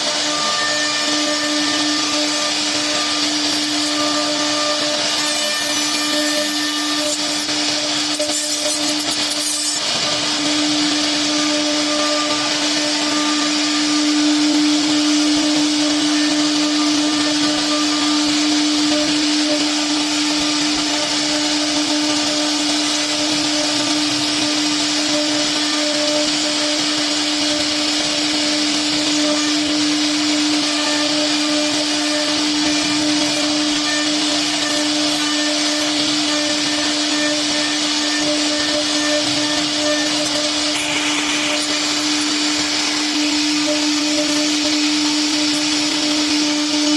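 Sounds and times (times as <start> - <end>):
router spindle whining: 0.0 - 46.9.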